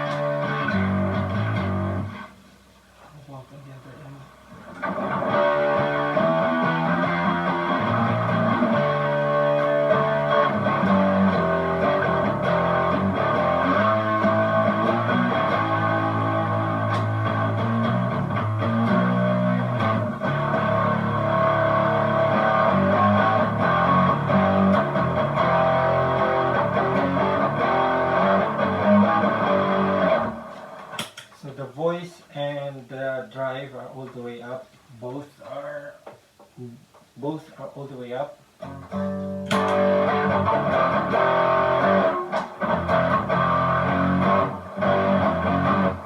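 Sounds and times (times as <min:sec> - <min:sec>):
distorted electric guitar riffs: 0:00.0 - 0:02.6, 0:04.0 - 0:31.1, 0:38.6 - 0:46.0.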